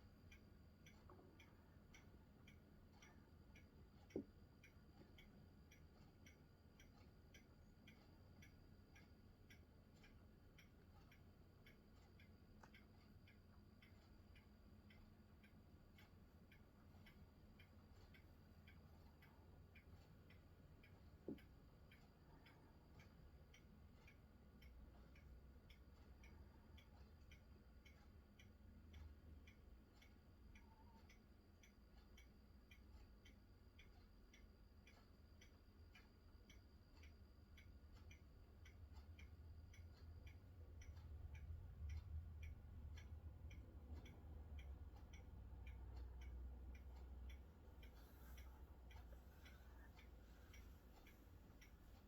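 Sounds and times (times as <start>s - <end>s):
faint low rumble: 0.0s - 52.0s
faint regular ticking: 0.0s - 52.0s.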